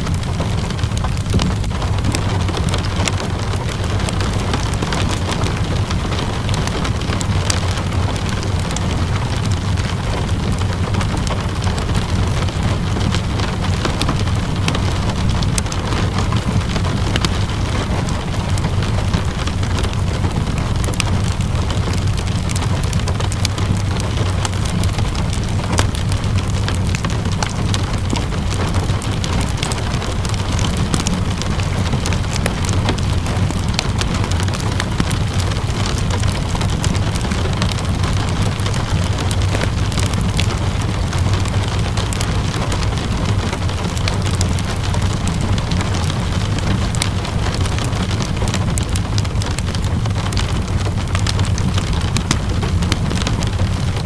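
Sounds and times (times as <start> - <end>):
deep low rumble: 0.0 - 54.0
steady rain: 0.0 - 54.0
wood fire crackling: 0.0 - 54.0.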